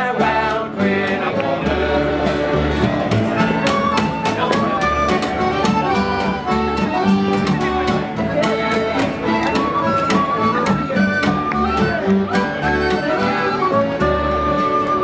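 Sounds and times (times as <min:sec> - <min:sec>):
held lead melody: 0:00.0 - 0:15.0
plucked upright bass: 0:00.0 - 0:15.0
strummed acoustic guitar: 0:00.0 - 0:15.0.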